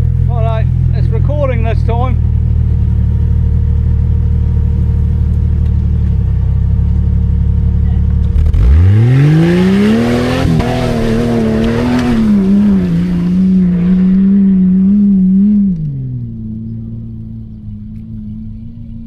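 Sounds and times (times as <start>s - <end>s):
engine revving and idling: 0.0s - 19.0s.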